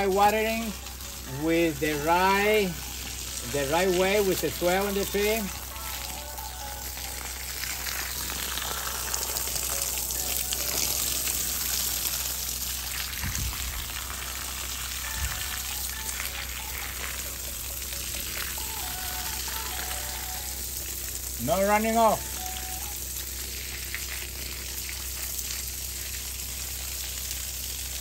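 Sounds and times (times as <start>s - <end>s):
hose spraying water on mulch: 0.0s - 28.0s.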